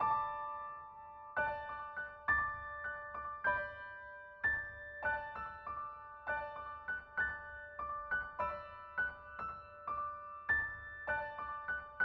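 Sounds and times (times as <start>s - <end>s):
gentle keyboard melody: 0.0s - 12.0s.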